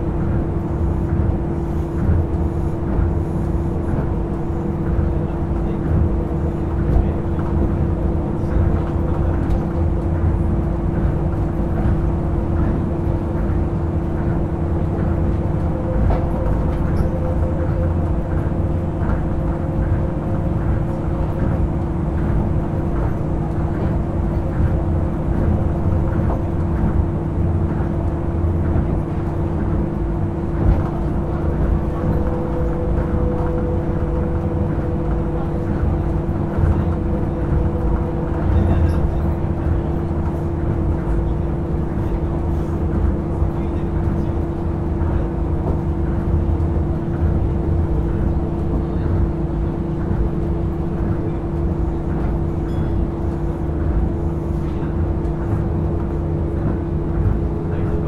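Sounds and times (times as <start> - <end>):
steady hum: 0.0 - 58.0
train bump: 0.0 - 58.0
train interior rumble: 0.0 - 58.0.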